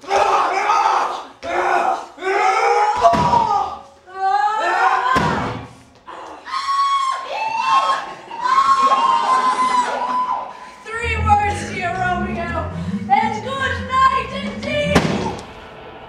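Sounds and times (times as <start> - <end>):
people shouting and yelling: 0.0 - 15.5.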